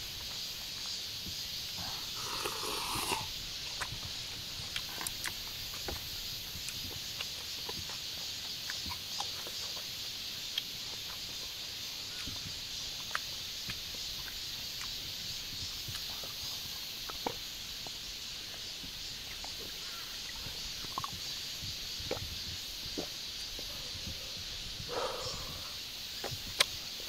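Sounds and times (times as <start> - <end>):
steady high hiss: 0.0 - 27.0
faint clicks and chirps: 0.2 - 27.0.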